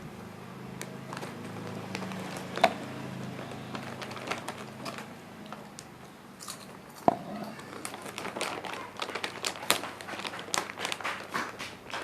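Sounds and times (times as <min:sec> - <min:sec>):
crunching crispy chips: 0:00.8 - 0:06.7, 0:07.5 - 0:12.0.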